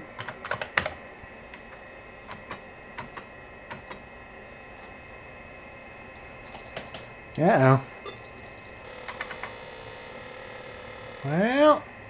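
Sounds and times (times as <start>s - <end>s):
computer hum: 0.0s - 12.0s.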